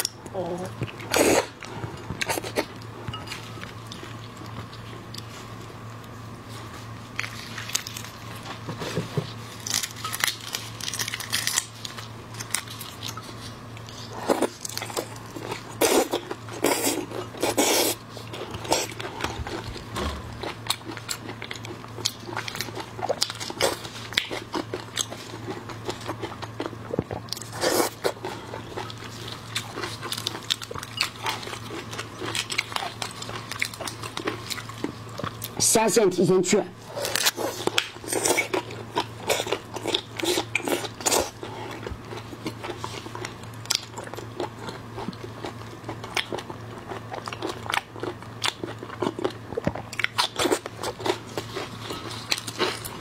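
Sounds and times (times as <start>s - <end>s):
steady low hum: 0.0s - 53.0s
crunchy bites and wet chewing: 3.6s - 35.6s, 36.8s - 53.0s.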